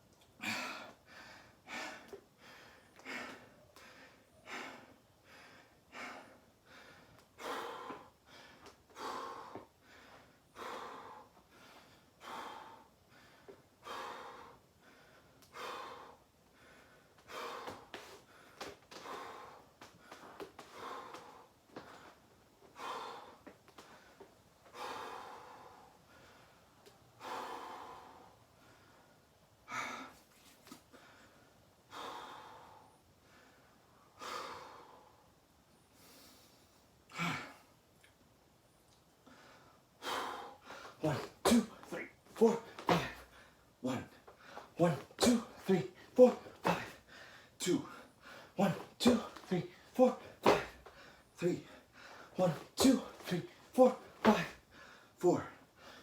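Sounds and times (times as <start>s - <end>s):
person breathing hard: 0.4s - 30.3s, 30.9s - 37.7s, 39.2s - 56.0s.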